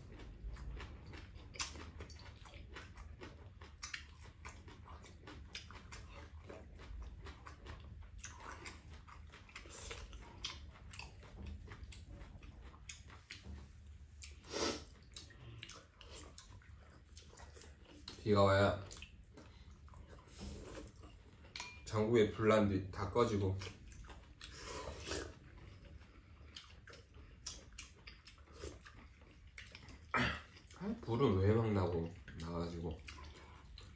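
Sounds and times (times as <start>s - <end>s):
people chewing: 0.0s - 33.9s.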